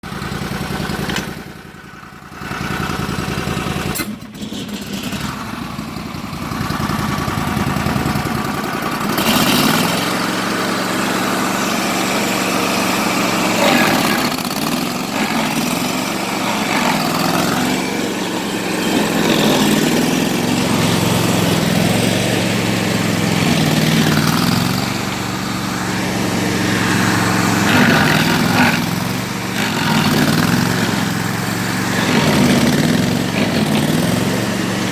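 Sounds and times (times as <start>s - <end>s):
cutter wheel grinding: 0.0s - 34.9s
stump grinder engine running: 0.0s - 34.9s.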